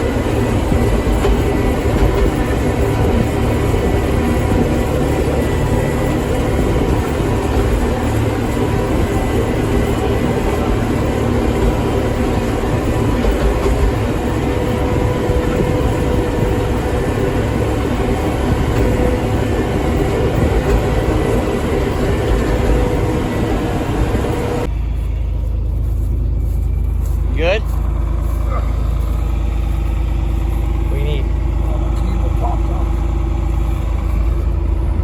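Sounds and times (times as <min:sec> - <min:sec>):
tractor engine droning: 0:00.0 - 0:35.0.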